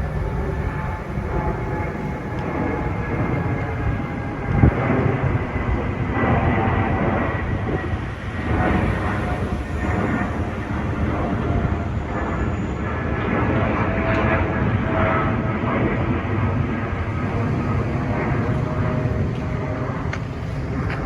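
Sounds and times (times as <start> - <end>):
airliner rumble: 0.0 - 21.0.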